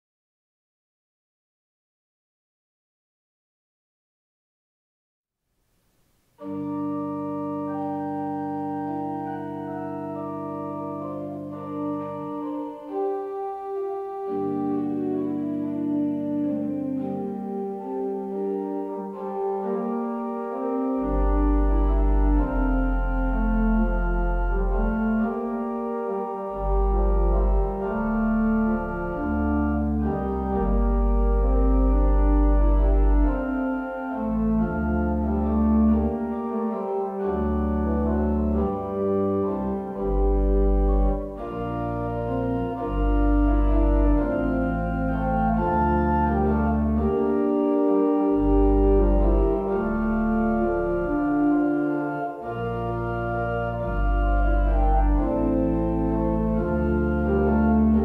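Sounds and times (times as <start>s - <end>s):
deep organ pedal bass notes: 6.4s - 58.0s
organ playing held chords: 6.4s - 58.0s.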